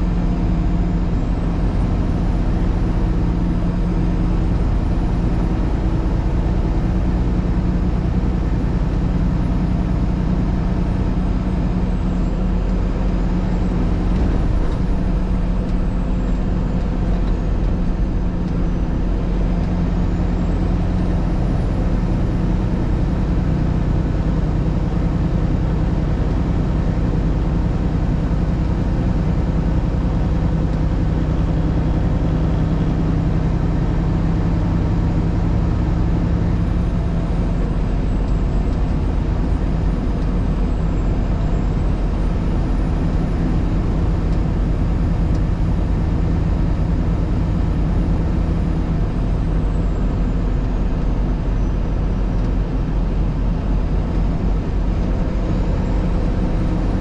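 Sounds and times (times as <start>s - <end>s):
road noise: 0.0s - 57.0s
vehicle engine drone: 0.0s - 57.0s.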